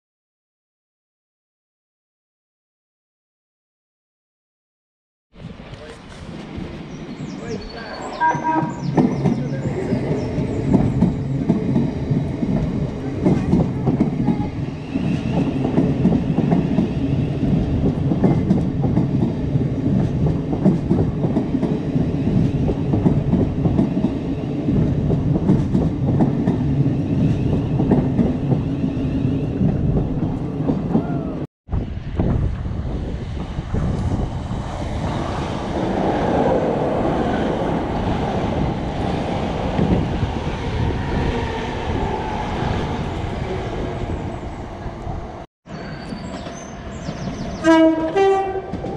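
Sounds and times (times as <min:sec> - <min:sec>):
train wheels rumbling on rails: 0:05.4 - 0:48.9.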